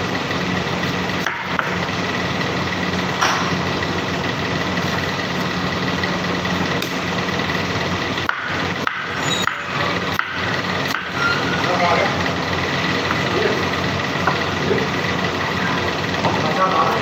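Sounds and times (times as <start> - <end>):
kitchen machinery humming: 0.0 - 17.0.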